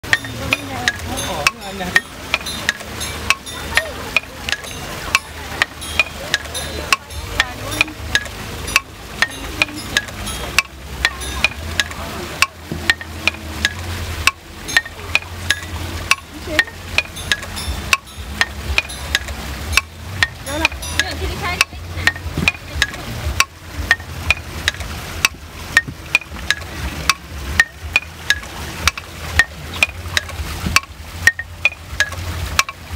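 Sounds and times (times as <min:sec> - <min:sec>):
low steady hum: 0:00.0 - 0:32.9
wooden mallets knocking on bars: 0:00.0 - 0:32.9.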